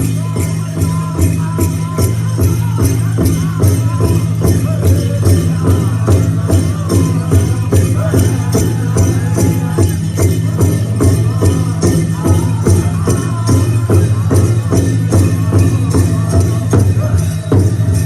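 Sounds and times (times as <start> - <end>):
steady drumbeat: 0.0 - 18.0
voices singing: 0.0 - 18.0.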